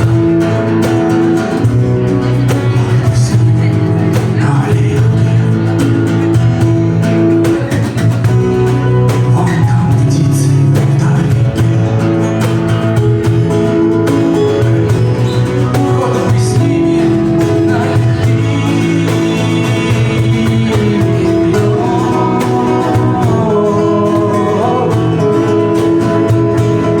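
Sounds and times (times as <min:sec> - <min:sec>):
acoustic guitar chords strummed: 0:00.0 - 0:27.0.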